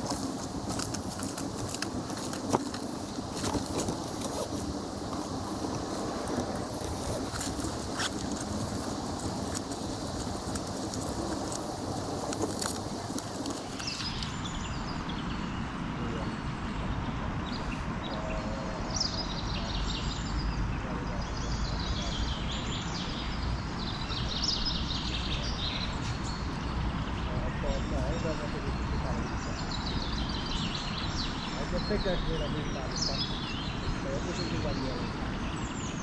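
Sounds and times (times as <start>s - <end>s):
bird chirps: 0.0s - 36.0s
outdoor background noise: 0.0s - 36.0s.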